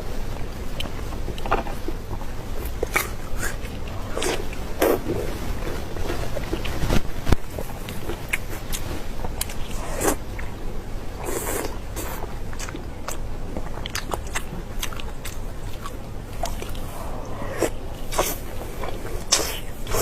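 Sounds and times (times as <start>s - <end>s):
person biting and chewing food: 0.8s - 10.5s, 11.2s - 20.0s.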